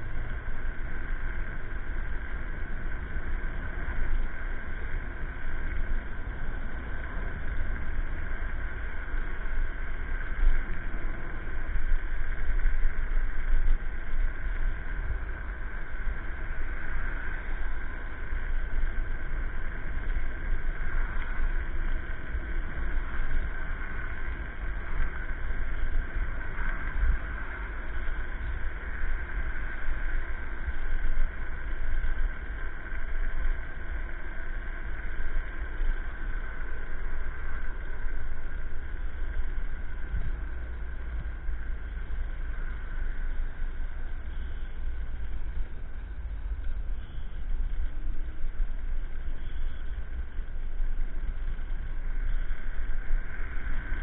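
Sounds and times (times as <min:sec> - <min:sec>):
road rumble: 0:00.0 - 0:54.0.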